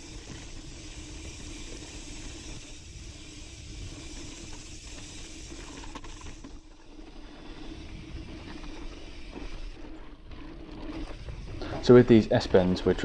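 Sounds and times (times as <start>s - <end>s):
tyres rolling on loose dirt: 0.0s - 13.0s.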